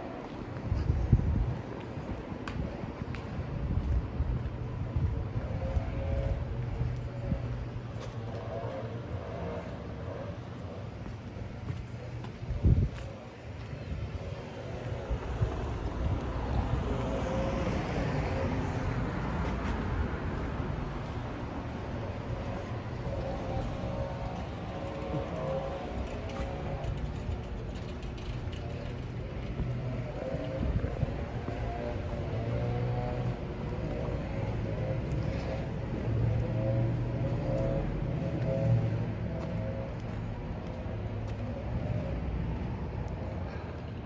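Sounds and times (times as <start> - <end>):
steady outdoor rumble: 0.0 - 44.0
street noise: 0.0 - 44.0
vehicle engine humming: 0.0 - 44.0
wind buffeting microphone: 0.1 - 8.3, 11.1 - 44.0.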